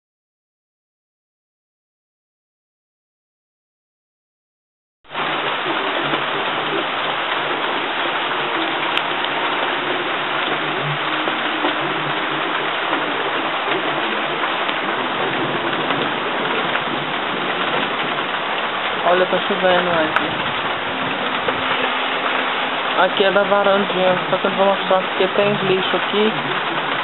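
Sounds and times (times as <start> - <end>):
steady rain falling: 5.1 - 27.0.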